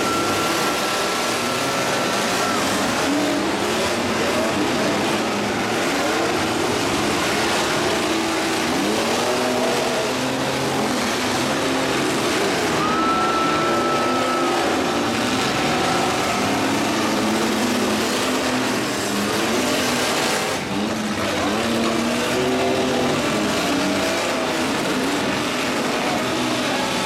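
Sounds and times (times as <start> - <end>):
continuous engine rumble: 0.0 - 27.0
truck engines revving: 0.0 - 27.0.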